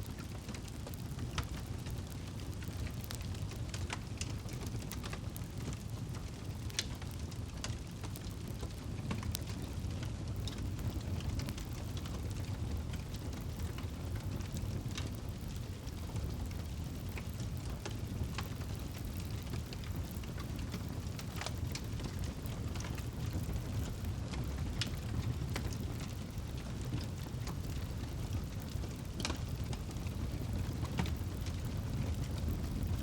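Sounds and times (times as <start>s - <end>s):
low rumble of flames: 0.0s - 33.0s
wood crackling and popping: 0.0s - 33.0s.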